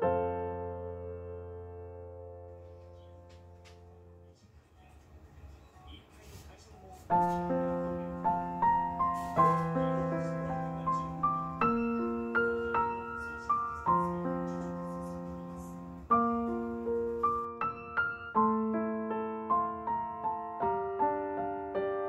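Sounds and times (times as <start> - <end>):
gentle piano melody: 0.0 - 4.4, 6.8 - 22.0.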